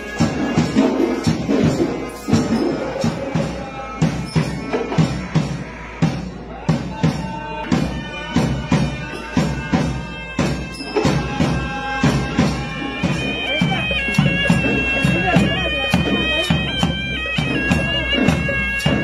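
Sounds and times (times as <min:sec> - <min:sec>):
drums in steady rhythm: 0:00.0 - 0:19.0
reedy pipe melody: 0:00.0 - 0:19.0.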